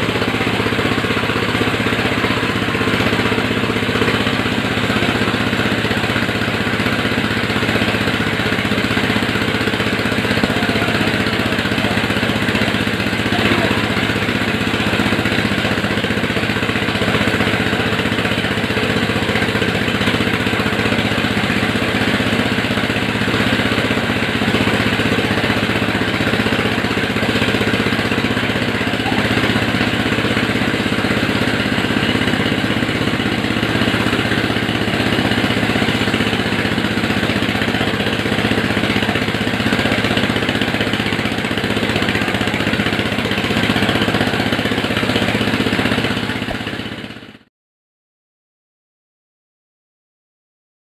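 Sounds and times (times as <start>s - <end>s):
corn sheller machinery noise: 0.0s - 47.4s
engine hum: 0.0s - 47.4s.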